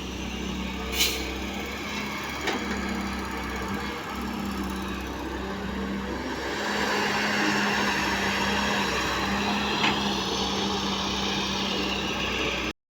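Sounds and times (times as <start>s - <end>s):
diesel engine running: 0.0s - 12.7s.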